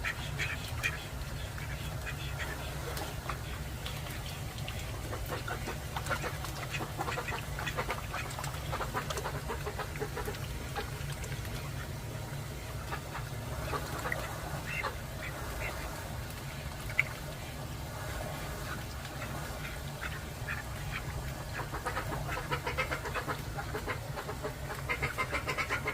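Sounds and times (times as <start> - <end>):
ducks quacking: 0.0 - 12.0, 12.8 - 16.2, 18.4 - 25.9
steady low hum: 0.0 - 25.9.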